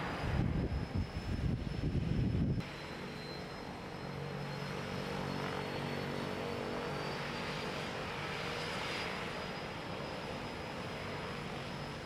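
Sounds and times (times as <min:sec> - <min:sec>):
propeller engine drone: 0:00.0 - 0:12.0.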